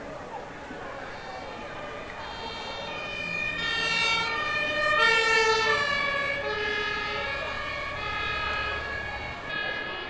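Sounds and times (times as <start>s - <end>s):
emergency vehicle sirens: 0.0s - 10.0s.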